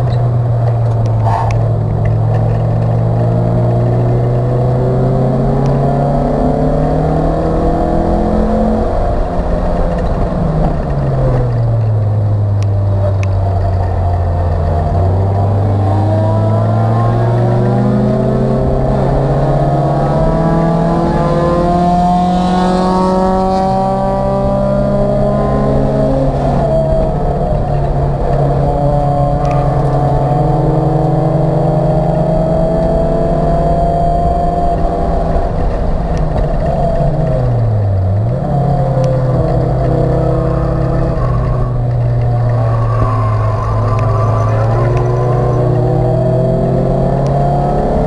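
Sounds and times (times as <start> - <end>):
race car engine accelerating: 0.0 - 48.0.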